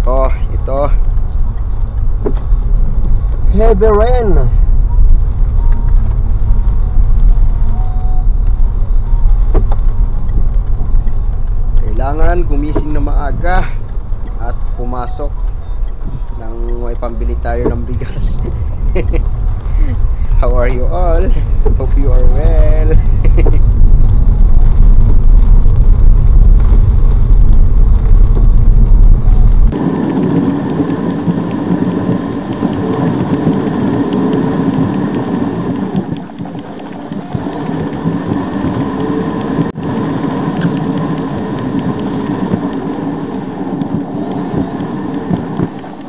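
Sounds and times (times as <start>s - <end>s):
car driving: 0.0s - 46.0s
heavy rain: 0.0s - 46.0s.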